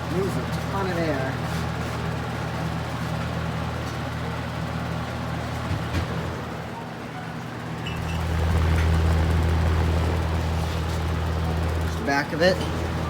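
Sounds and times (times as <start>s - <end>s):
box fan humming: 0.0s - 13.0s.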